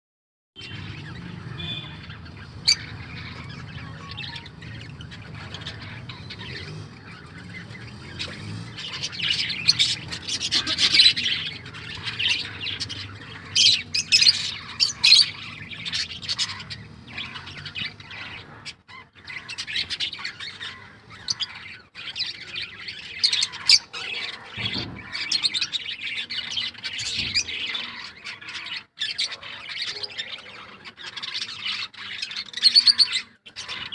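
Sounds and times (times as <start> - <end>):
birds chattering and squawking: 0.6 - 33.9.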